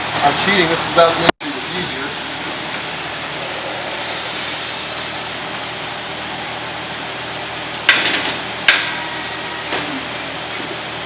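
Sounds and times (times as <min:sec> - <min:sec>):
cooler fan rushing: 0:00.0 - 0:09.6.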